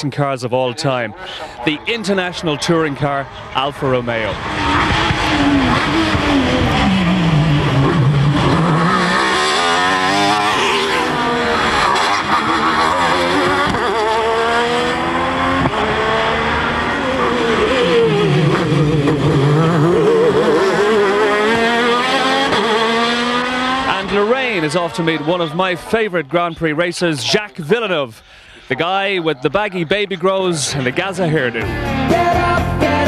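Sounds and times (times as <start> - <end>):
racing car engines revving: 0.8 - 28.1.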